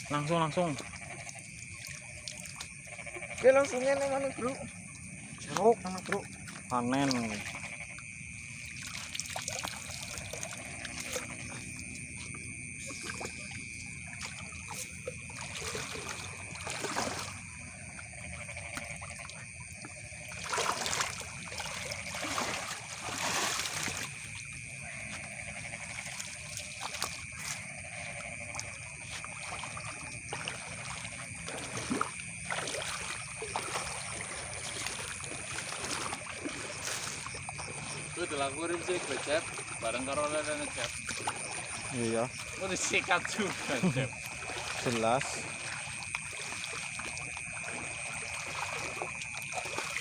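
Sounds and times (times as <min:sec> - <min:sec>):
high-pitched insect chorus: 0:00.0 - 0:50.0
shallow water trickling and splashing: 0:00.0 - 0:50.0.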